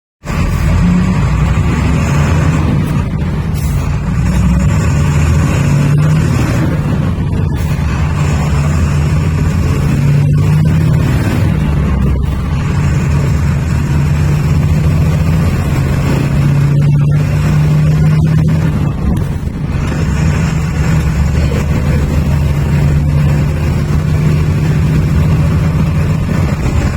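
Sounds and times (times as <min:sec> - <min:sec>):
bus engine low drone: 0:00.2 - 0:26.9.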